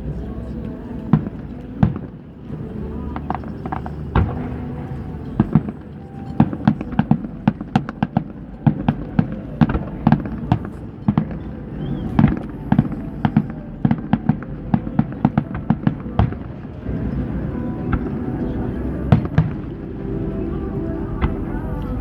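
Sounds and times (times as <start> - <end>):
continuous low rumble: 0.0 - 22.0
fireworks bangs: 1.0 - 22.0.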